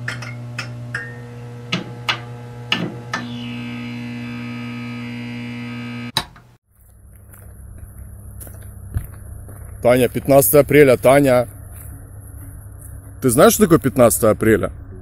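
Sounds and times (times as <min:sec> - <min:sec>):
electric hum: 0:00.0 - 0:15.0
faint outdoor sound: 0:00.0 - 0:15.0.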